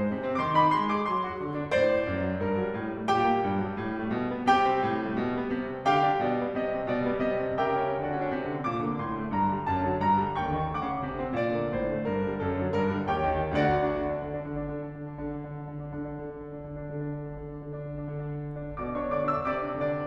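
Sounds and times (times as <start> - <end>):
solo piano playing: 0.0 - 20.0.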